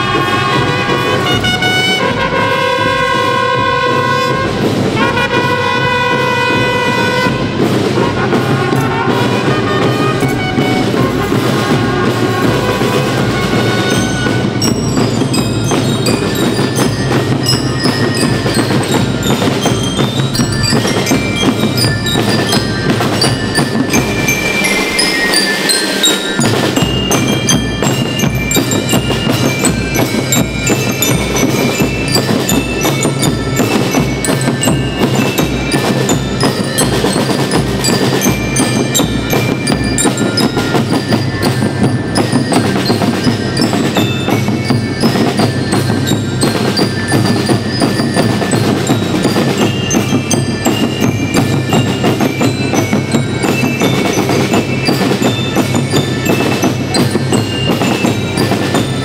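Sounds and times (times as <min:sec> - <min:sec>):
bell lyres playing melody: 0:00.0 - 0:59.0
snare and bass drums marching beat: 0:00.0 - 0:59.0.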